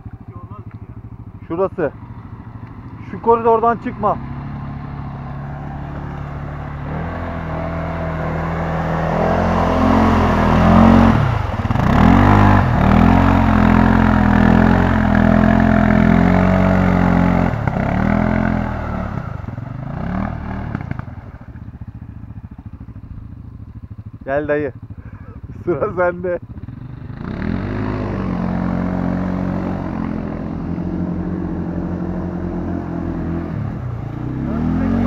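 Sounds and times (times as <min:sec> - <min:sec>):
quad engine revving hard: 0:03.0 - 0:21.1, 0:25.0 - 0:35.0.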